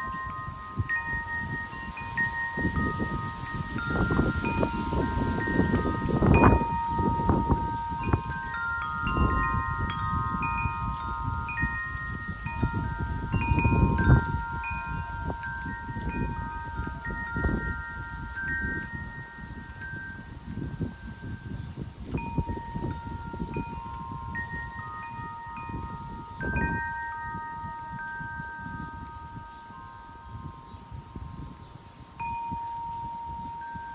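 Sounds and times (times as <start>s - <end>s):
wind chimes ringing: 0.0s - 33.9s
wind rumbling on microphone: 0.0s - 33.9s.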